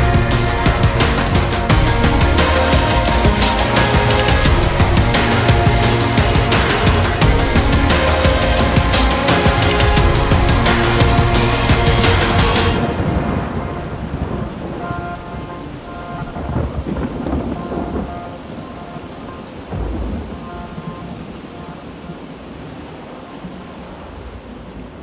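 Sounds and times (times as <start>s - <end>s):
music: 0.0s - 22.2s
rain: 0.0s - 25.0s
thunder rumbles: 0.0s - 25.0s.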